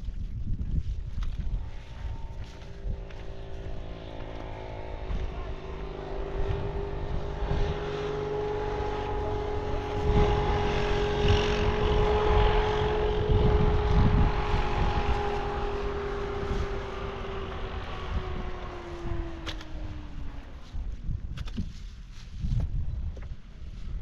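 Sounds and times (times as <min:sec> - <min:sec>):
steady motor hum: 0:00.0 - 0:21.4
low rumbling noise: 0:00.0 - 0:24.0.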